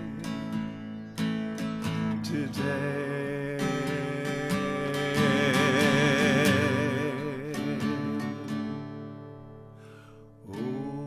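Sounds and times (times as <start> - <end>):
person singing: 0.0 - 0.8, 1.7 - 9.2, 10.4 - 11.0
strummed acoustic guitar: 0.0 - 11.0.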